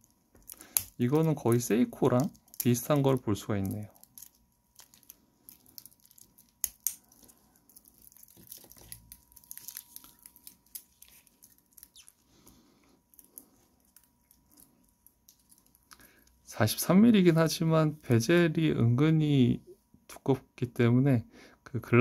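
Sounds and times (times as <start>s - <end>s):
gloves rustling: 0.0s - 18.3s.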